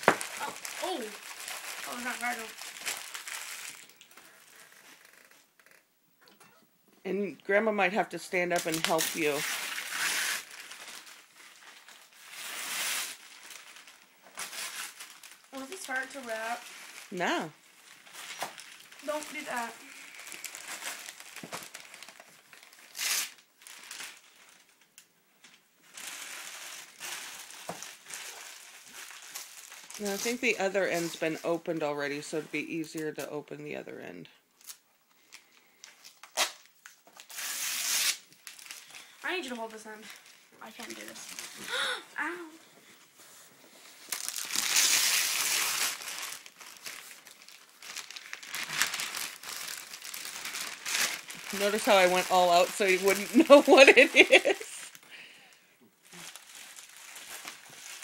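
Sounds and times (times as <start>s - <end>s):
wrapping paper crinkling: 0.0s - 5.8s, 8.4s - 33.2s, 34.6s - 58.0s.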